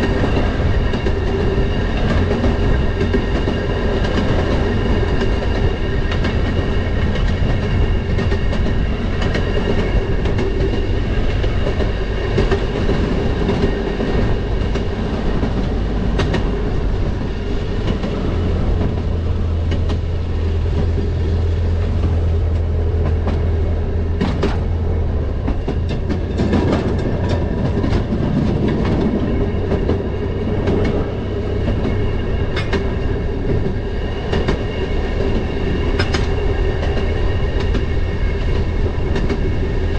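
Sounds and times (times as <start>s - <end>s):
rail motorcar engine drone: 0.0s - 39.9s
wheels clicking over rail joints: 0.0s - 39.9s.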